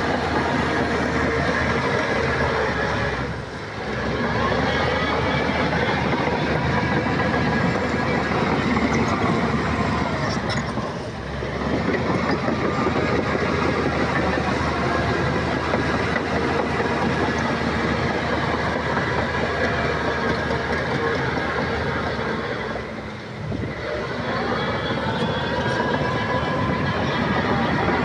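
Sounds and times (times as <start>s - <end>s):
heavy earthmoving machinery running: 0.0s - 28.0s.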